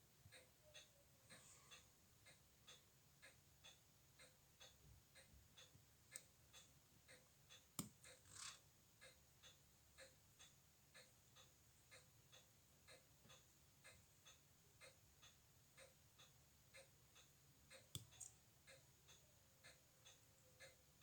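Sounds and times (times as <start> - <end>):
wristwatch ticking: 0.3 - 20.9.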